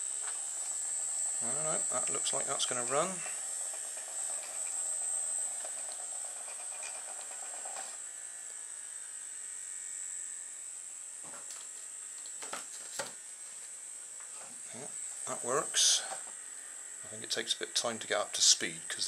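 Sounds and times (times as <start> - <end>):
small motor high-pitched buzz: 0.0 - 19.0.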